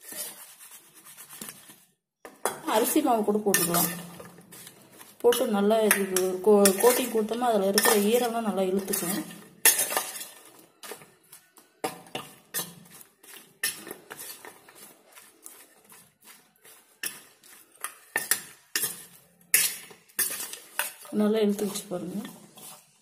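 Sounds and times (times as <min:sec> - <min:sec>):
fork scraping a metal bowl: 0:00.0 - 0:01.8, 0:03.5 - 0:11.1, 0:11.8 - 0:23.0.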